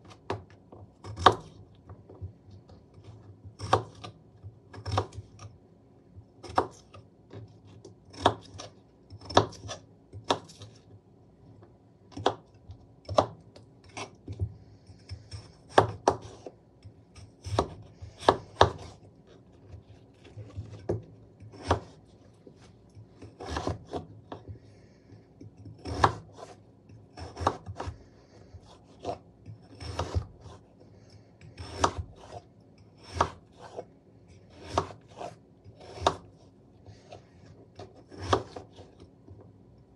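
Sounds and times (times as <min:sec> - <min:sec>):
knife chopping potatoes: 0:00.0 - 0:05.5, 0:06.3 - 0:10.8, 0:12.1 - 0:39.4.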